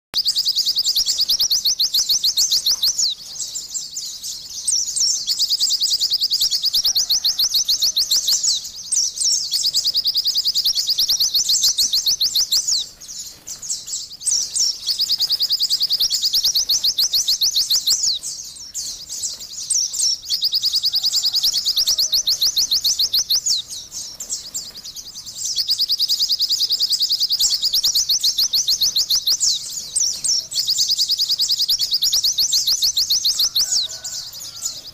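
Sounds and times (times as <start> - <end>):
bird chattering song: 0.2 - 34.9.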